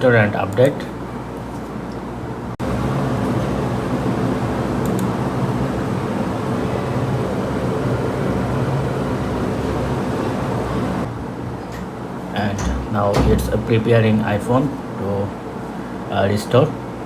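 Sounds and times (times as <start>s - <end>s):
steady low hum with hiss: 0.0s - 17.0s.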